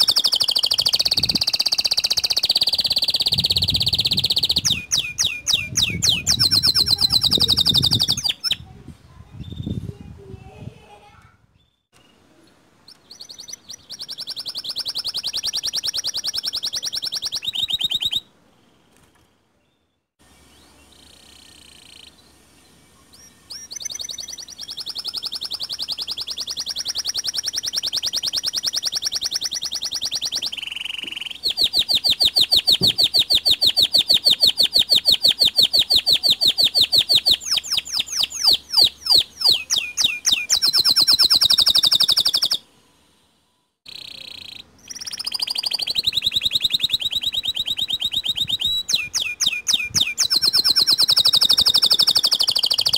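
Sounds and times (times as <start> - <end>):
canary singing fast trills: 0.0 - 9.9, 11.6 - 18.9, 20.4 - 22.4, 23.1 - 42.7, 43.9 - 52.9.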